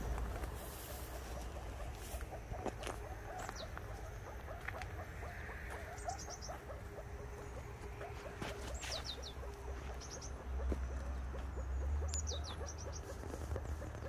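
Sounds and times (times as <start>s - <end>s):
meerkats chirping: 0.0s - 14.0s.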